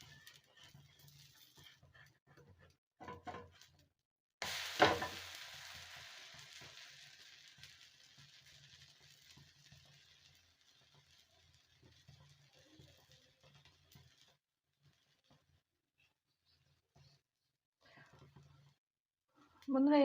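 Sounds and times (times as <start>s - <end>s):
hot griddle sizzling: 0.0s - 17.1s, 17.8s - 18.8s.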